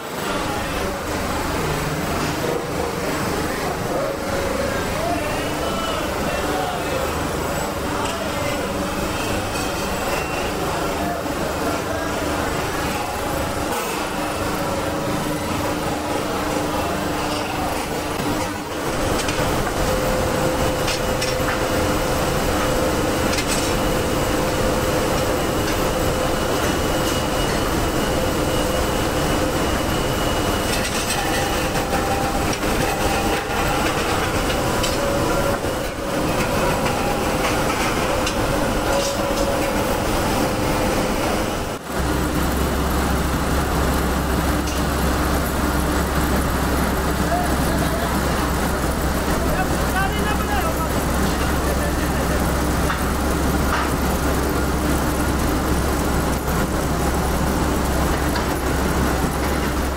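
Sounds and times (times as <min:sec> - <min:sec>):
steel mill clatter and hum: 0:00.0 - 0:59.9.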